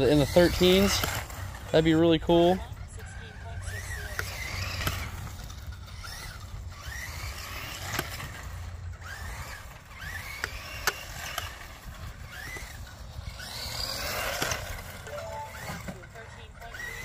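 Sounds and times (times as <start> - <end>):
electric motor whining: 0.0 - 17.0
low steady rumble: 0.0 - 17.0.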